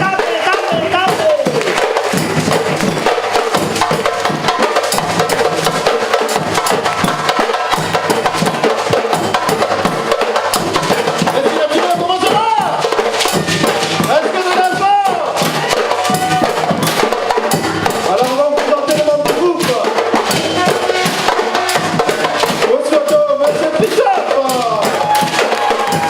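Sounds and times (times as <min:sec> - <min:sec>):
percussion band drumming: 0:00.0 - 0:26.0
wood block strikes: 0:00.0 - 0:26.0.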